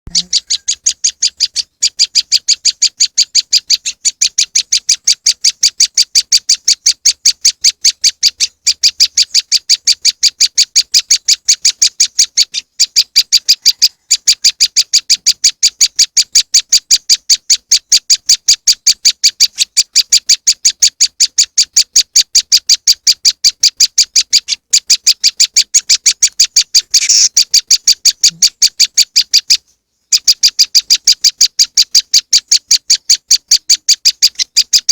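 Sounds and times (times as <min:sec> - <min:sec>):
bird calling sharp high chips: 0:00.1 - 0:34.9.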